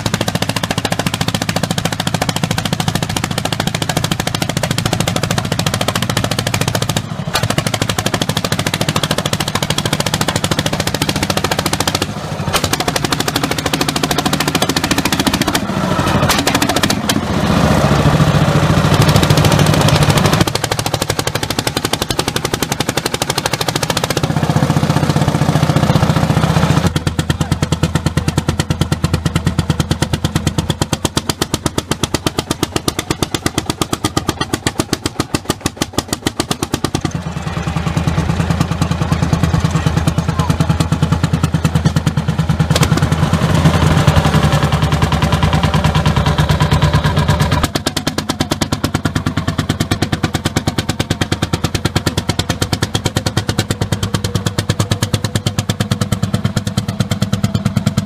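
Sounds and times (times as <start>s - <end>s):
tractor engine pounding: 0.0s - 58.0s.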